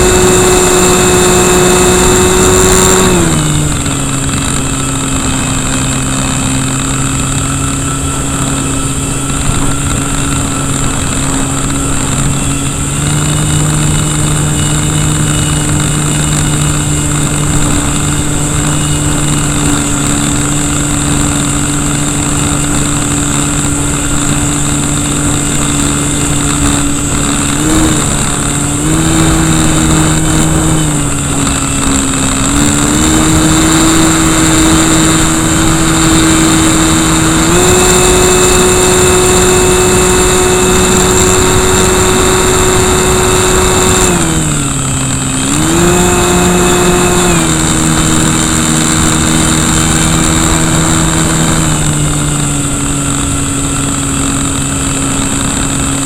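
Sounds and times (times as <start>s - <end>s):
electric motor and propeller whining: 0.0s - 56.0s.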